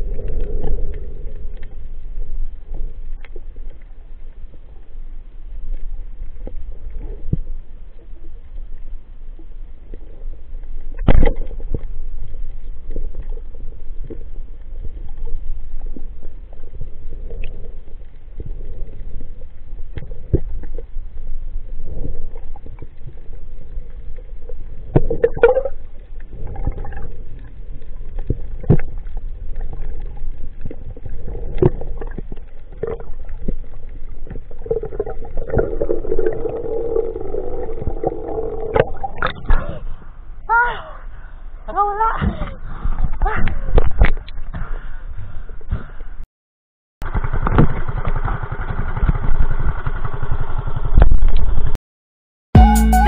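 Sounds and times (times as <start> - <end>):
underwater rumble of moving water: 0.0 - 46.2, 47.0 - 51.8.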